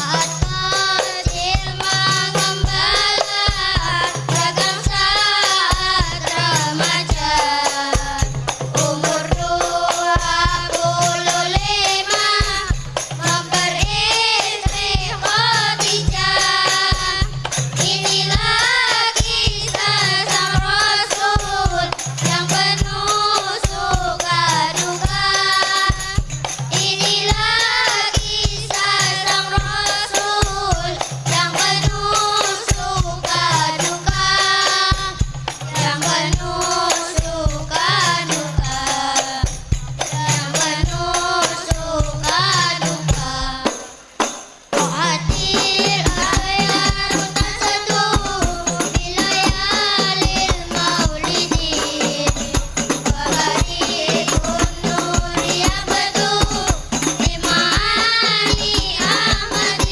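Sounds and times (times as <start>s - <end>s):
frame drums beating: 0.0s - 59.9s
tambourine jingles: 0.0s - 59.9s
voices singing devotional melody: 0.0s - 59.9s.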